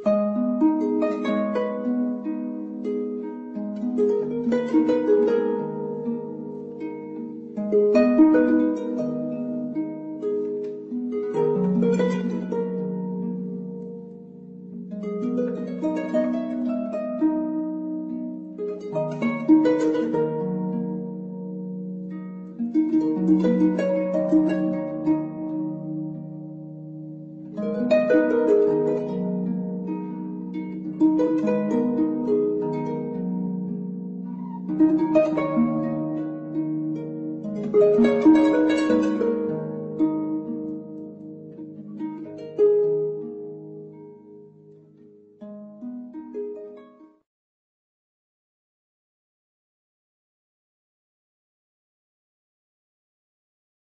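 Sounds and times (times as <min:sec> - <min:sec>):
harp-like plucked music: 0:00.0 - 0:47.3.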